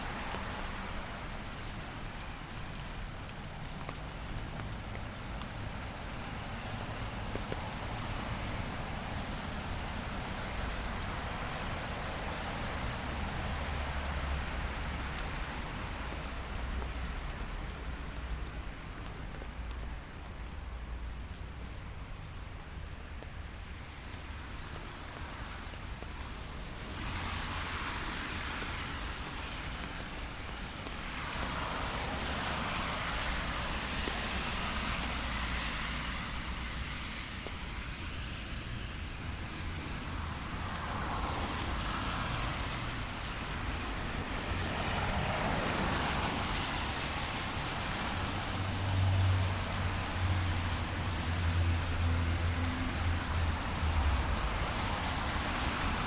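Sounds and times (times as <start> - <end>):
low rumble of traffic: 0.0 - 56.0
rain falling on street: 0.0 - 56.0
tyres hissing on wet road: 0.0 - 56.0.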